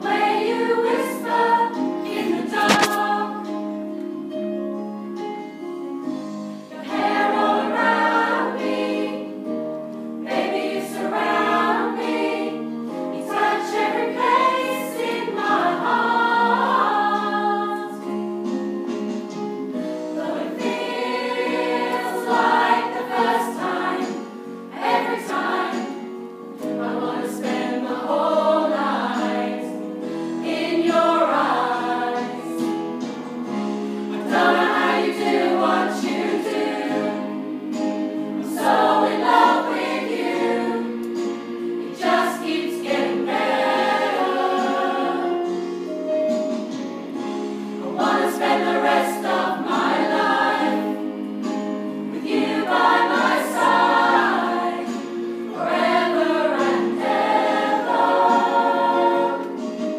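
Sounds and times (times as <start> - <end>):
choir singing in harmony: 0.0 - 4.6, 6.0 - 59.9.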